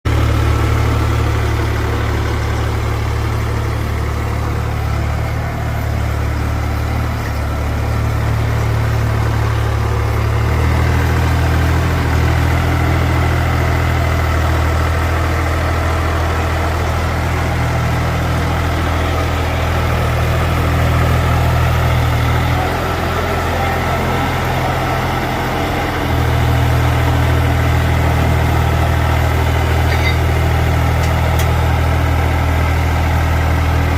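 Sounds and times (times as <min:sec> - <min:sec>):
mini excavator diesel engine running: 0:00.1 - 0:33.9.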